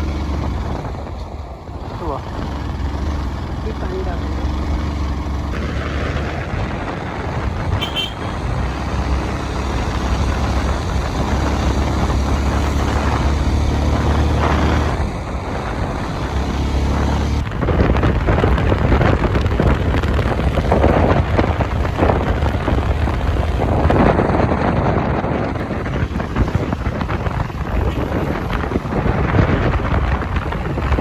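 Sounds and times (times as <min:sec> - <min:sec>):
road noise: 0:00.0 - 0:31.0
vehicle engine running: 0:00.0 - 0:31.0
wind noise on microphone: 0:00.0 - 0:31.0.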